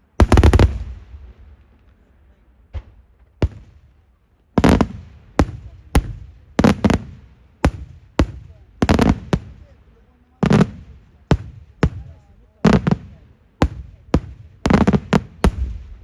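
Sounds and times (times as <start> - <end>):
fireworks bangs echoing: 0.0 - 2.0, 2.6 - 16.0.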